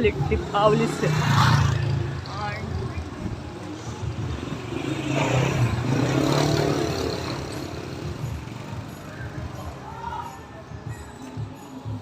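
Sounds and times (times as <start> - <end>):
passing street noise: 0.0 - 12.0.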